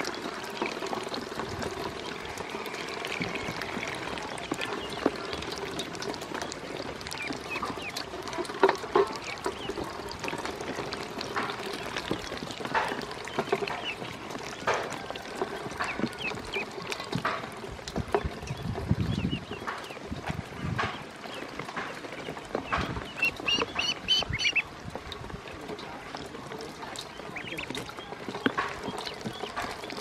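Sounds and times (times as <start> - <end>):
ducklings peeping: 0.0 - 24.9, 26.6 - 30.0
ducklings splashing in water: 0.0 - 30.0.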